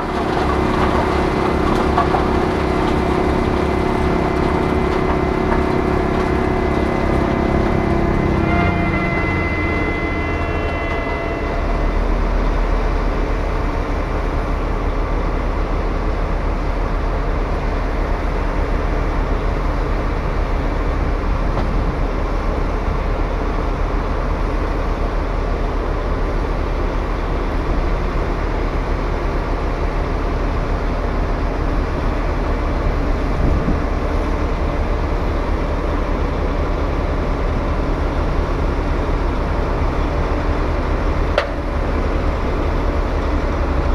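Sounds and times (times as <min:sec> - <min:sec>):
wood chipper engine drone: 0:00.0 - 0:43.9.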